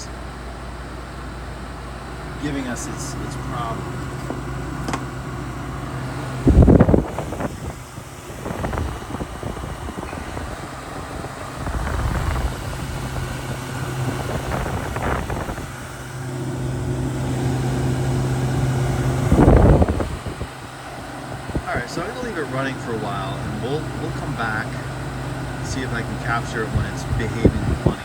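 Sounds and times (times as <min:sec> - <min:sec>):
air conditioner fan humming: 0:00.0 - 0:28.0.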